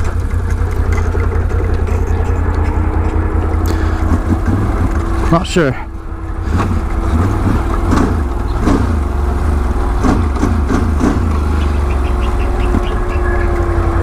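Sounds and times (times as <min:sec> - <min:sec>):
engine running slowly: 0:00.0 - 0:14.0
recurring mechanical noise: 0:00.0 - 0:14.0.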